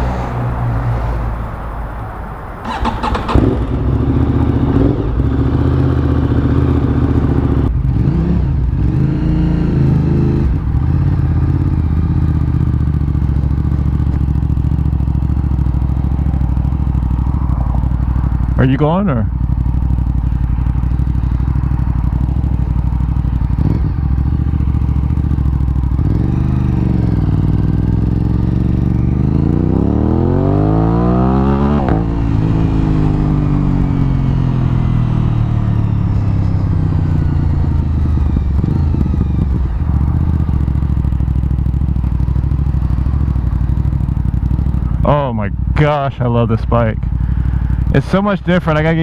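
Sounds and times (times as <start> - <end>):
motorcycle engine revving: 2.6 - 49.0.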